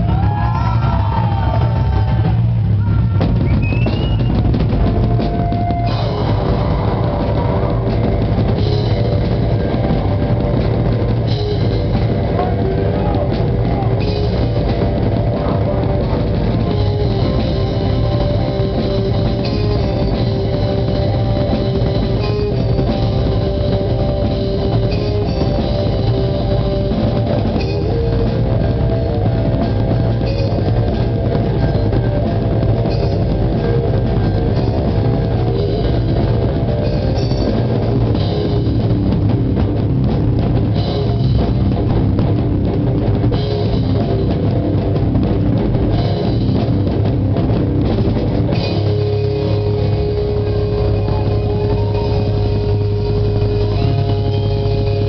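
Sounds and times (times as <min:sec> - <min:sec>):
drum kit with cymbals: 0:00.0 - 0:55.0
electric guitars: 0:00.0 - 0:55.0
rock band playing: 0:00.0 - 0:55.0.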